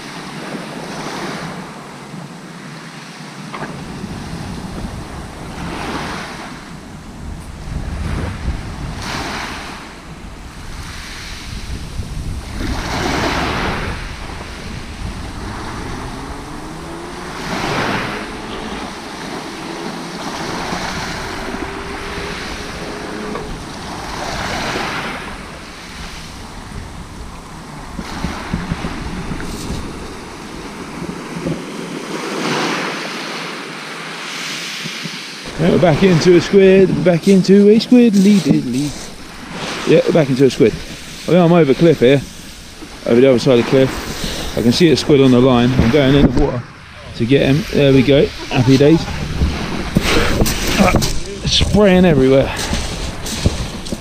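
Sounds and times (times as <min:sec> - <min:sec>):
sea waves washing onto shore: 0:00.0 - 0:54.0
wind on microphone: 0:00.0 - 0:54.0.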